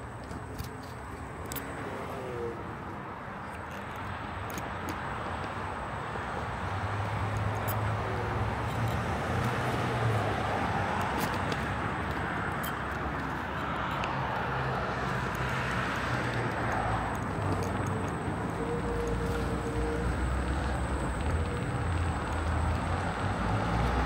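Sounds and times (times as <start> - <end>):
cars going by: 0.0 - 24.0.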